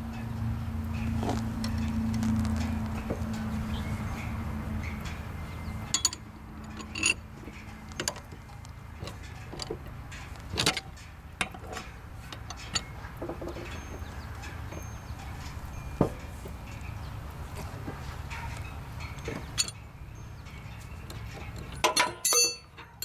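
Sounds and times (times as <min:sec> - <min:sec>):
metallic clinks of wrenches: 0:00.9 - 0:23.0.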